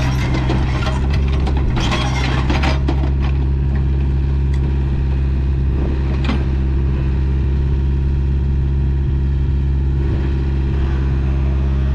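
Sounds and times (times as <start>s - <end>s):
excavator diesel engine running: 0.0s - 11.9s.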